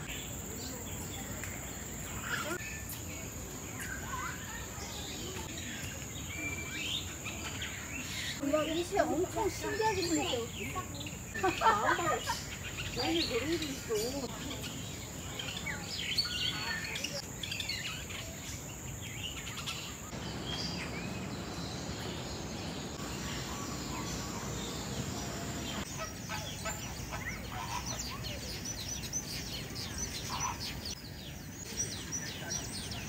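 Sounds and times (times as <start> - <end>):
birds chirping: 0.0 - 33.0
steady background noise: 0.0 - 33.0.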